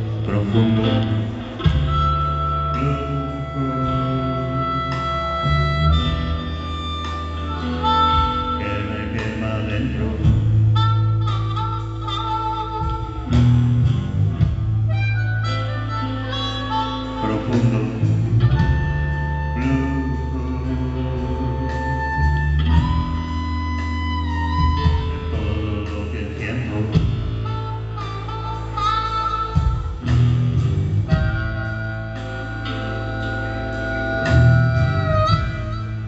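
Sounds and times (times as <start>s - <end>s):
blues band playing: 0.0s - 36.0s.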